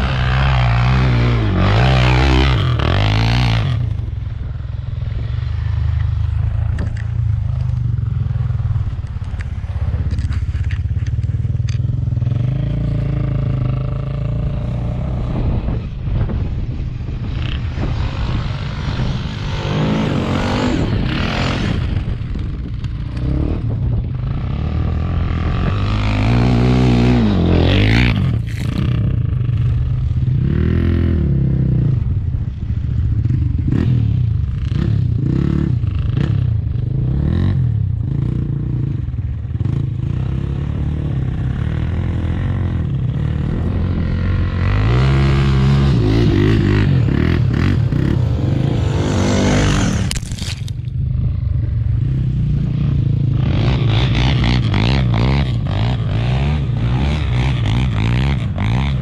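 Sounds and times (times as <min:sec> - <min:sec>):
quad bike engines revving: 0:00.0 - 0:16.4, 0:17.2 - 0:59.0.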